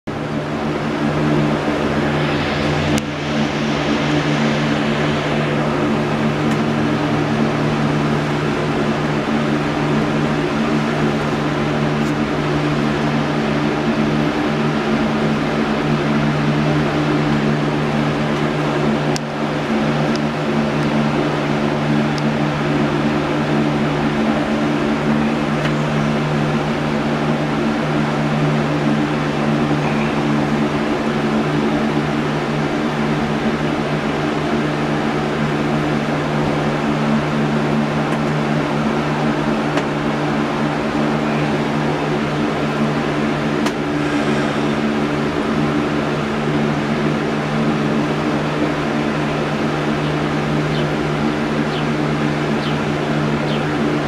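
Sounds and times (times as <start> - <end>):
mechanical hum with hiss: 0.2 - 54.0.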